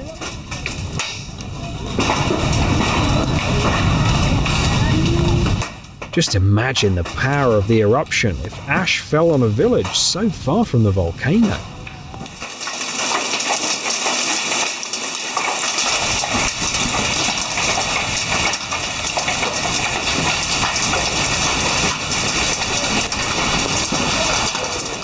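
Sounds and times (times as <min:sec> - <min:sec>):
ash and grit raining down: 0:00.5 - 0:11.7, 0:12.3 - 0:25.0.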